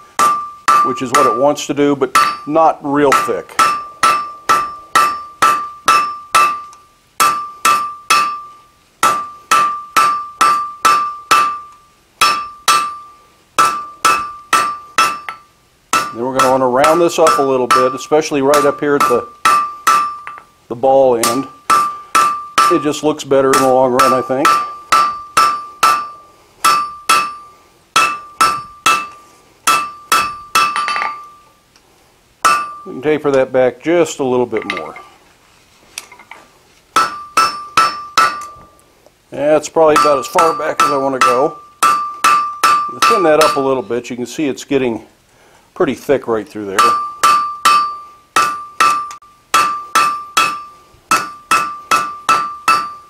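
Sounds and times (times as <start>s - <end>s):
hammer striking steel on anvil: 0.0s - 20.5s, 21.2s - 31.5s, 32.4s - 33.0s, 37.0s - 38.8s, 39.9s - 43.9s, 46.8s - 53.0s.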